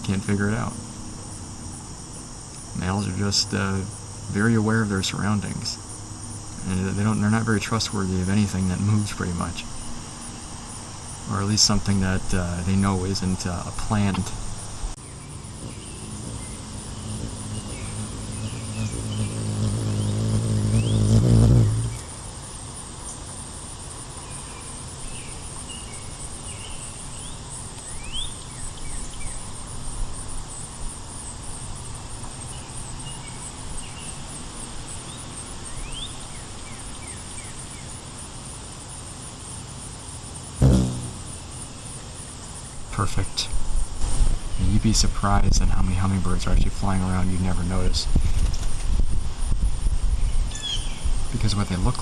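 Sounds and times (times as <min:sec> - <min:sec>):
high insect trill: 0:00.0 - 0:52.0
hummingbird wings humming: 0:00.0 - 0:52.0.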